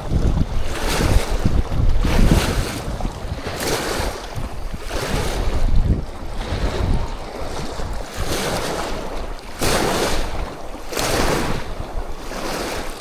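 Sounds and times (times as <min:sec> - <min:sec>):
water washing against a bank: 0:00.0 - 0:13.0
wind buffeting microphone: 0:00.0 - 0:13.0.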